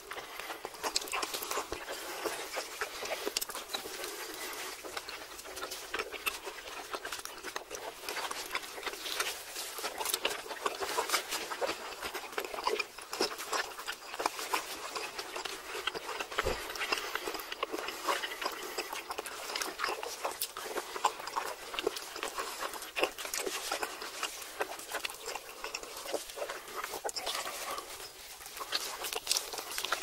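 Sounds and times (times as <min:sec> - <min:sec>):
people chewing steak: 0:00.0 - 0:30.0.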